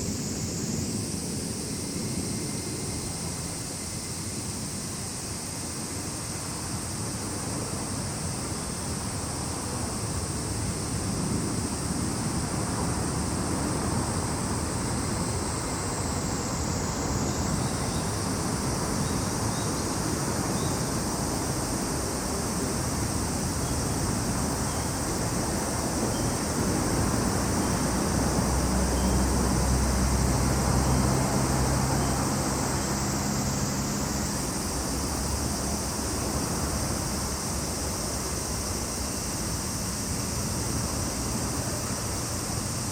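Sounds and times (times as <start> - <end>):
cicadas singing: 0.0 - 42.9.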